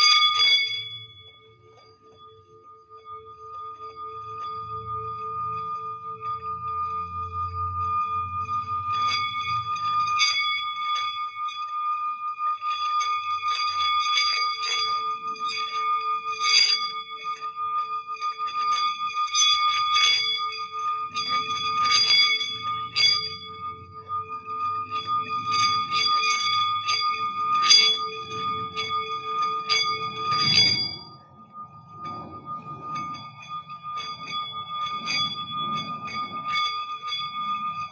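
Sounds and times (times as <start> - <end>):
singing bowl ringing: 0.0 - 37.9
small bells struck: 0.0 - 37.9.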